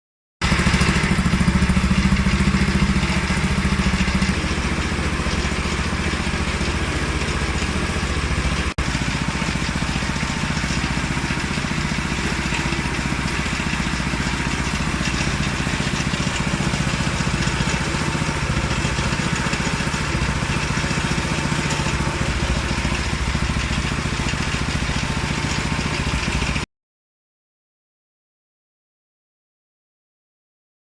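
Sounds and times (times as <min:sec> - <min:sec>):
small petrol engine running: 0:00.4 - 0:26.7.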